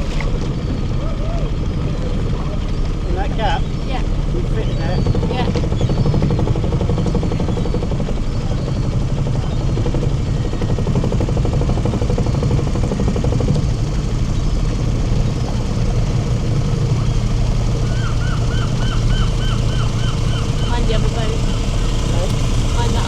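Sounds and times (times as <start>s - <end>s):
motorboat engine running: 0.0s - 23.0s.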